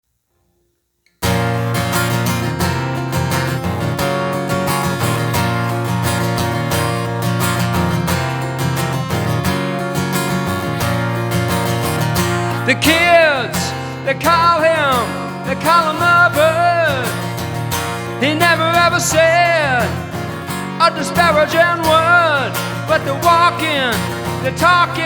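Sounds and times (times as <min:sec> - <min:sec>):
strummed acoustic guitar: 0:01.2 - 0:25.0.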